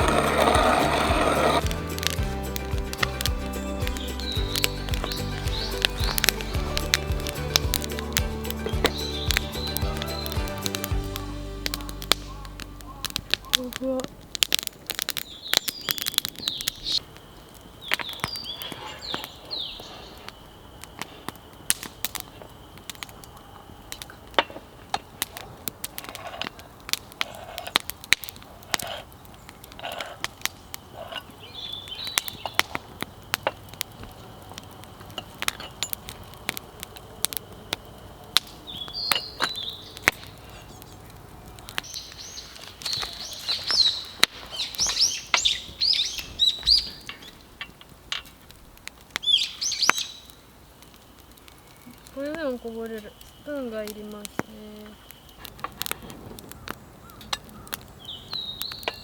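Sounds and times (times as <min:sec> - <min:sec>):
small birds chirping: 0:00.0 - 0:24.4, 0:27.8 - 0:47.6, 0:49.1 - 0:59.0
wood fire crackling: 0:00.0 - 0:59.0.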